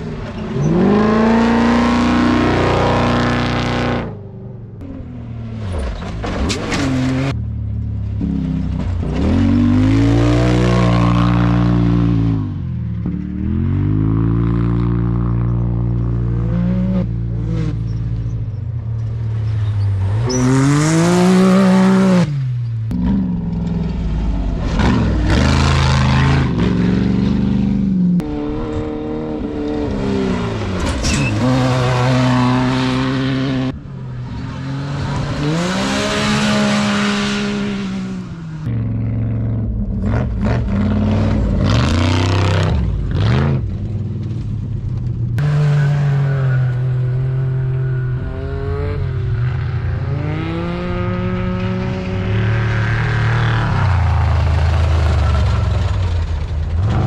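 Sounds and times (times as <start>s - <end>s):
race vehicle engines revving: 0.0s - 57.0s
tyre and dirt noise: 0.0s - 57.0s.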